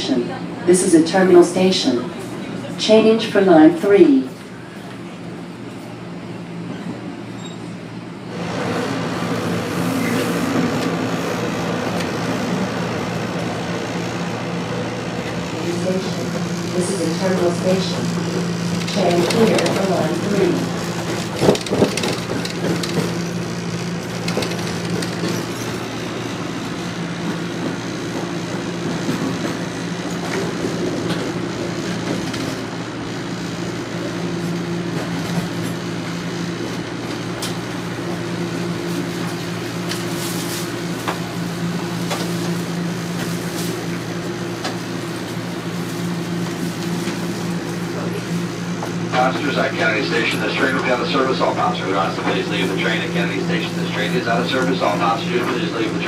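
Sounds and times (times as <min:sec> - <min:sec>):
subway car hum and running noise: 0:00.0 - 0:56.0.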